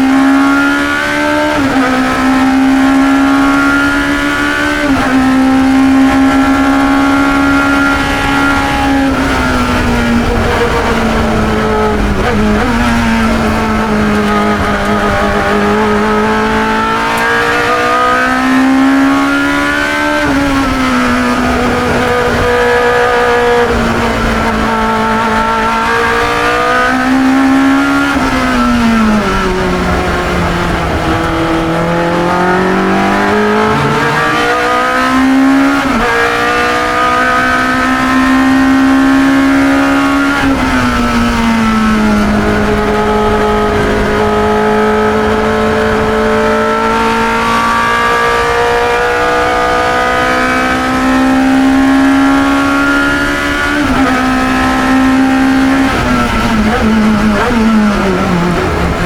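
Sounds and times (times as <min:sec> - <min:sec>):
quick gear changes: 0:00.0 - 0:59.0
racing car engine: 0:00.0 - 0:59.0.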